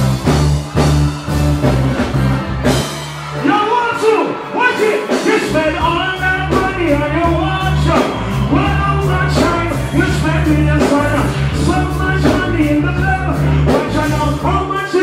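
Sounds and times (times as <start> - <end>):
bass-driven dancehall riddim: 0.0 - 14.8.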